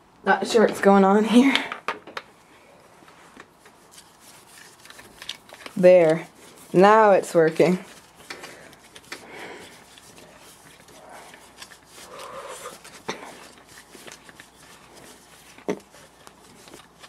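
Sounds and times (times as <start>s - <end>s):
plastic rubbing and scraping: 3.1s - 17.0s.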